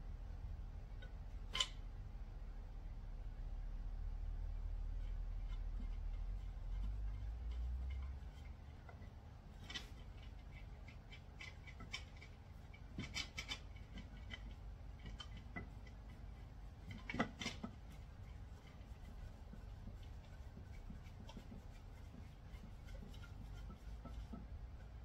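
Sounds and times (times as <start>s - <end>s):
small clicks and scrapes of fittings: 0.9s - 1.9s, 4.8s - 25.0s.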